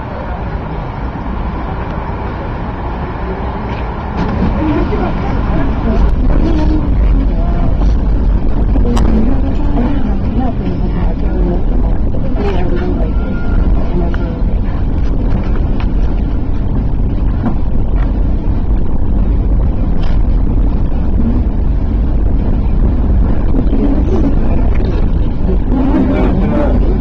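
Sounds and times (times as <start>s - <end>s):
lift car rumbling: 0.0s - 27.0s.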